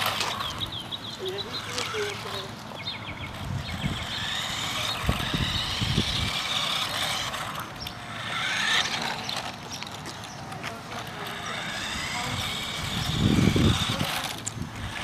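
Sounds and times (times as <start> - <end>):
toy car motor whining: 0.0 - 2.6, 3.2 - 15.0.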